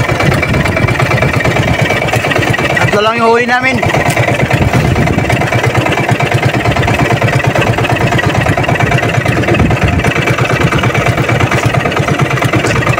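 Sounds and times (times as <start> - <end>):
boat engine running: 0.0 - 12.9.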